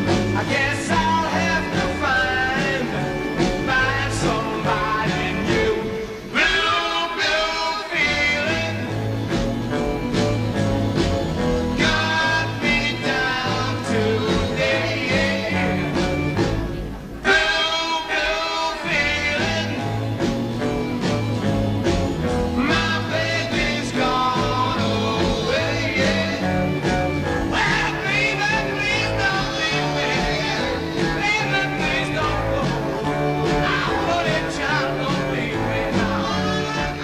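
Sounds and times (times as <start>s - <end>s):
man singing: 0.0s - 9.0s, 11.7s - 16.3s, 17.2s - 20.0s, 22.5s - 37.0s
rhythm and blues band playing: 0.0s - 37.0s.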